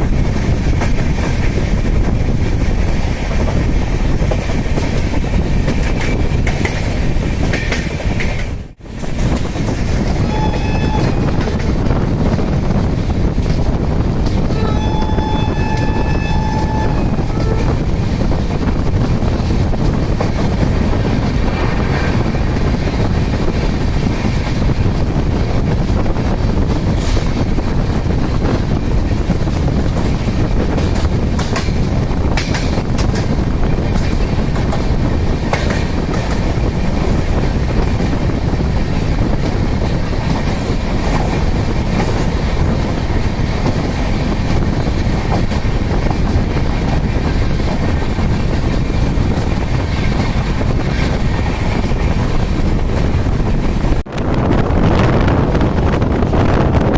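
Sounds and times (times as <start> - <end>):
rail joint clicks: 0.0 - 54.4
train wheels rumbling on rail: 0.0 - 56.9.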